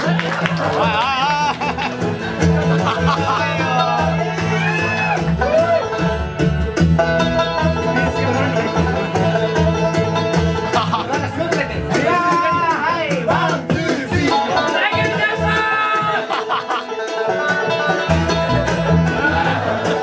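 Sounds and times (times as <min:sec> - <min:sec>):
bluegrass band playing: 0:00.0 - 0:20.0.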